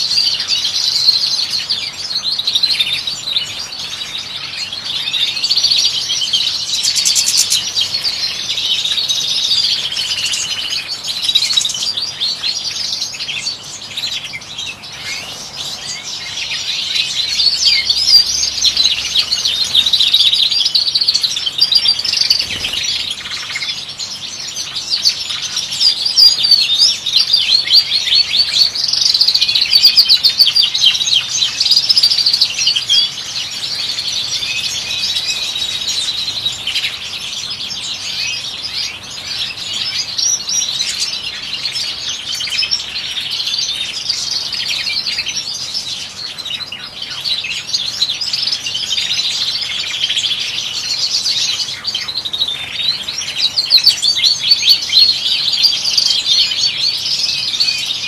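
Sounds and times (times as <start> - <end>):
finches twittering: 0.0 - 58.0.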